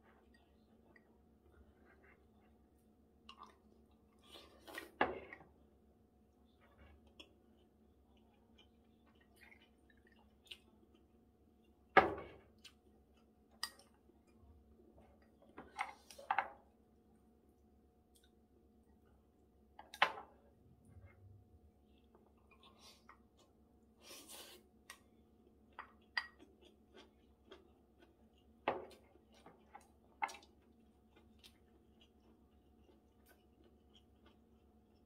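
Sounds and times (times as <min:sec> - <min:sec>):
soft chewing: 0:00.0 - 0:35.0.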